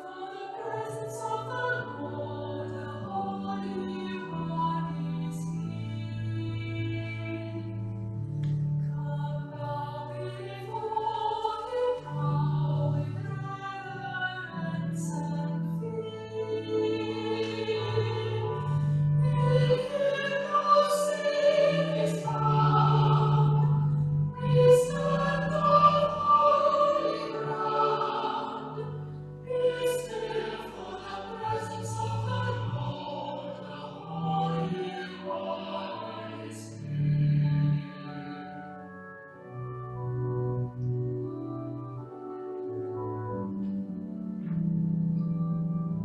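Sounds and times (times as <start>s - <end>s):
choir singing a slow hymn: 0.0s - 8.0s, 8.8s - 38.9s.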